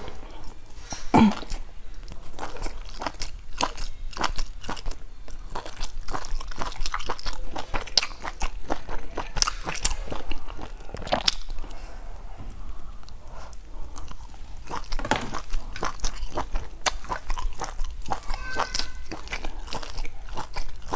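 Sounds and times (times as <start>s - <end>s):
crunchy food being chewed: 0.0s - 20.9s.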